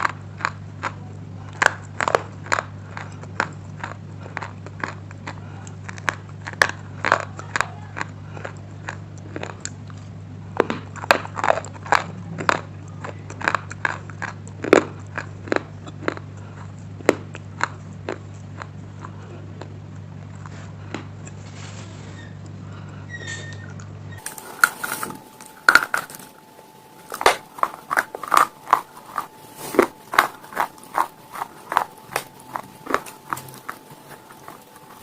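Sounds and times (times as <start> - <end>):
crunching chewing of stone: 0.0 - 35.0
low electrical hum: 0.0 - 35.0.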